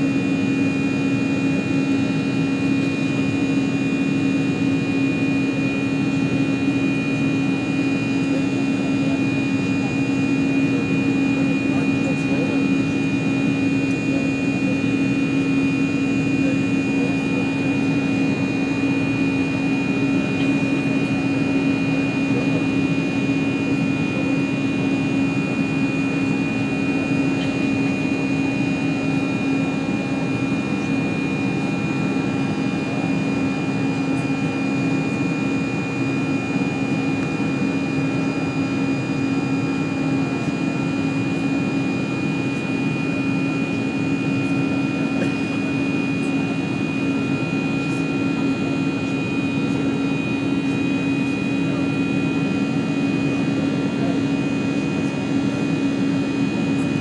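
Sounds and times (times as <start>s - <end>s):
jet engine cabin noise: 0.0s - 57.0s.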